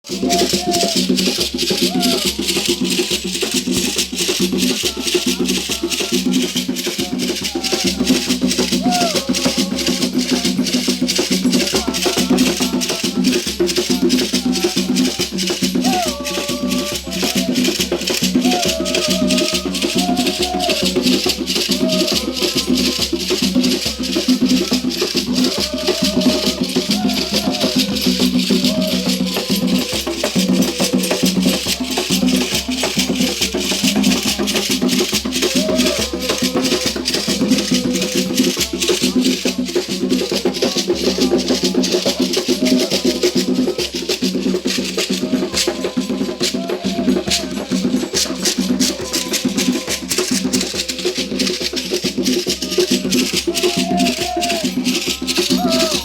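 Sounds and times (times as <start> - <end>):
gourd rattles shaking: 0.0 - 56.0
hand drums beating: 0.0 - 56.0
voices singing: 0.0 - 56.0.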